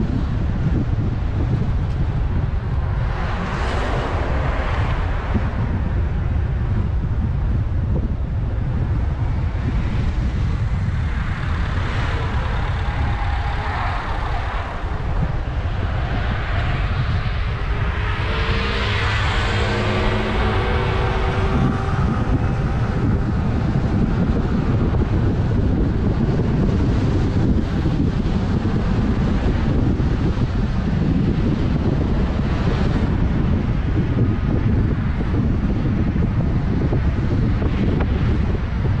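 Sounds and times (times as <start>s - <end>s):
car road and wind noise: 0.0s - 39.0s
rushing noise: 0.0s - 39.0s.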